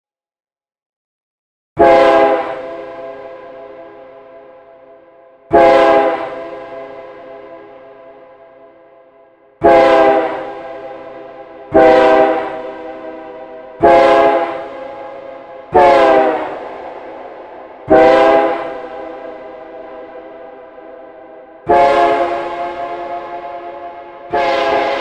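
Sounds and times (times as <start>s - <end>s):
train horn blasts: 1.8s - 25.0s.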